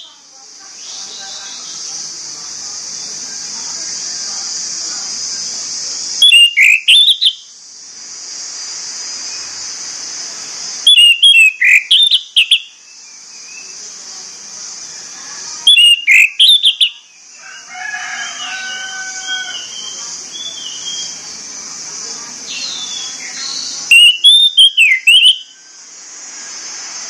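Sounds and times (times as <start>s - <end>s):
thrush singing whistled notes: 0.0s - 4.5s, 5.2s - 7.7s, 9.0s - 27.0s
high-pitched hiss: 0.0s - 27.0s.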